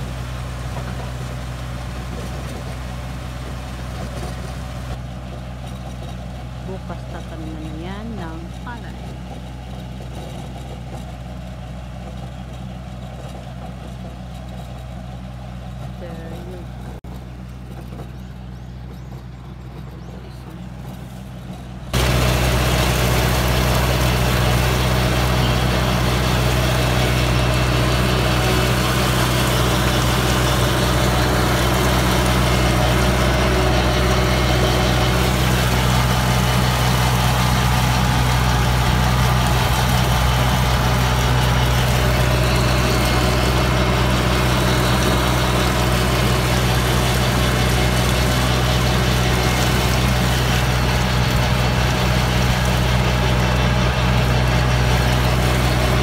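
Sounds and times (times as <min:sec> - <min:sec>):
farm machine engine humming: 0:00.0 - 0:56.0.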